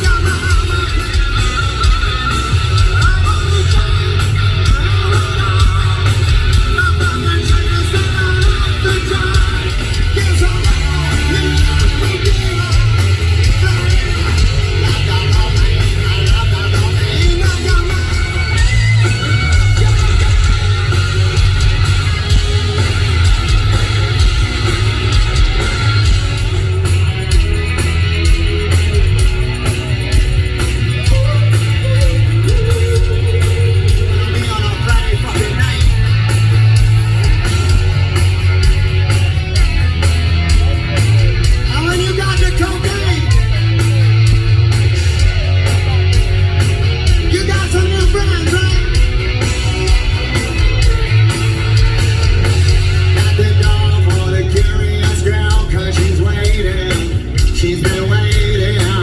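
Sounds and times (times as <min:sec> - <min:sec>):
distorted electric guitar: 0:00.0 - 0:59.0
drums keeping a steady beat: 0:00.0 - 0:59.0
heavy bass: 0:00.0 - 0:59.0
loud rock music: 0:00.0 - 0:59.0.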